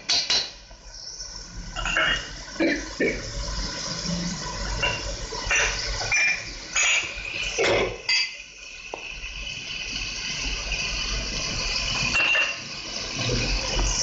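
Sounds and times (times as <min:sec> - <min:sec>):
spices sizzling in a pan: 0:00.0 - 0:14.0.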